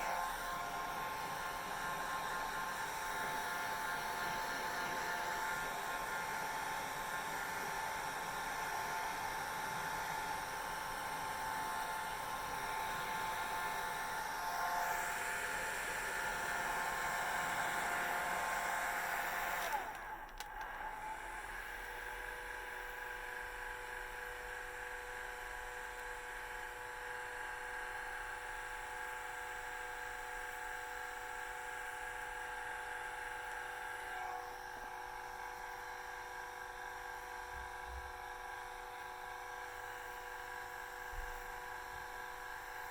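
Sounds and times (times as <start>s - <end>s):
hair dryer blowing: 0.0s - 42.9s.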